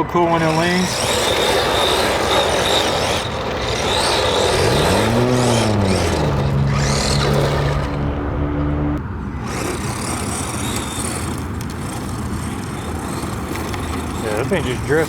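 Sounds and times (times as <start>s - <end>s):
tyres rushing on loose dirt: 0.0s - 8.0s, 9.4s - 15.0s
pitched hum: 0.0s - 14.5s
motor whine: 0.0s - 15.0s.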